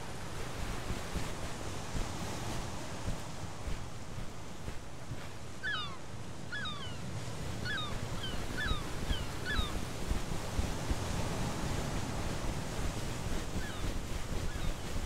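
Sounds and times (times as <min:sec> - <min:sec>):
surf: 0:00.0 - 0:15.0
wind: 0:00.0 - 0:15.0.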